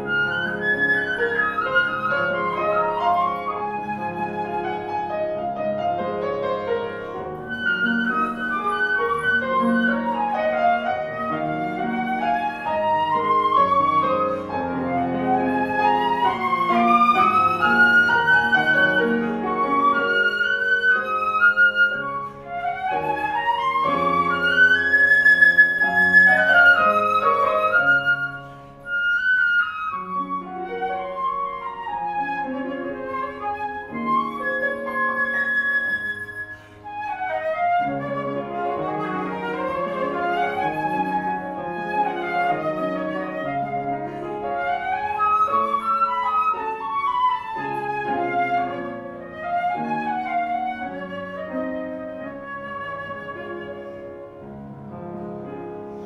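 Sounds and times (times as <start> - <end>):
flute melody: 0.0 - 56.0
piano accompaniment: 0.0 - 56.0.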